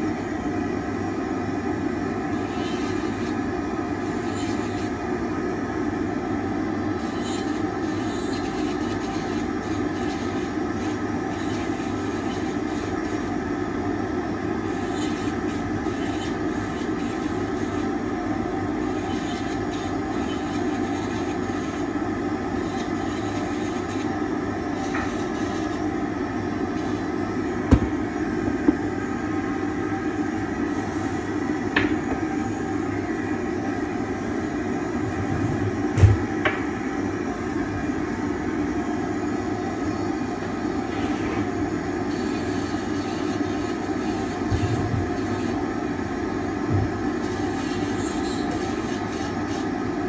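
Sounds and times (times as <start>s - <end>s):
dust extractor running: 0.0s - 50.0s.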